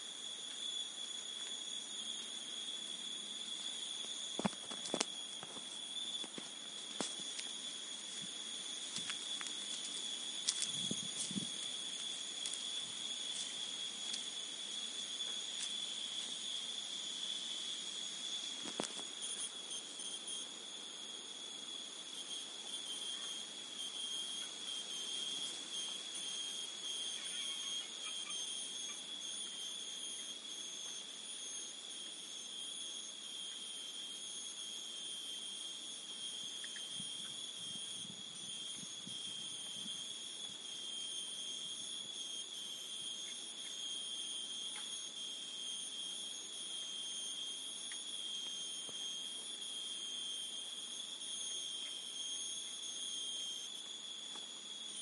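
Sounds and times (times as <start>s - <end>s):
insects buzzing high tones: 0.0s - 55.0s.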